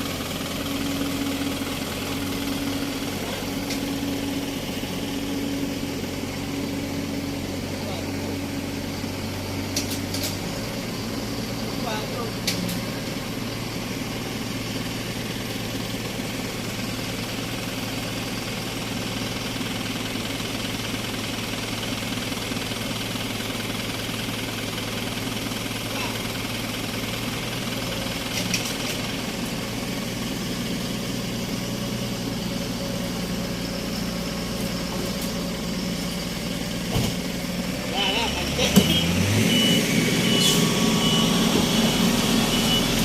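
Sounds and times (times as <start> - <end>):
truck engine idling: 0.0 - 43.0.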